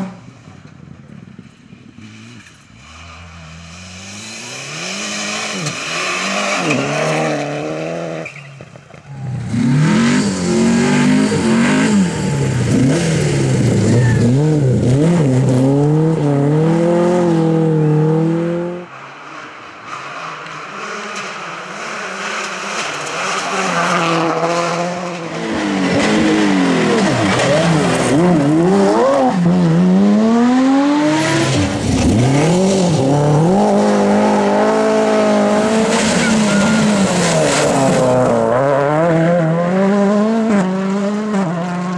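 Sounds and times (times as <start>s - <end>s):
rally car engines revving: 0.0s - 41.9s.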